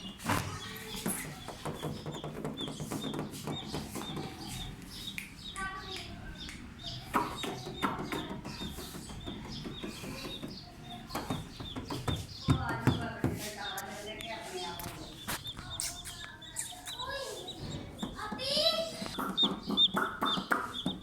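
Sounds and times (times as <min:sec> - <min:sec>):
baby chicks peeping: 0:00.0 - 0:21.0.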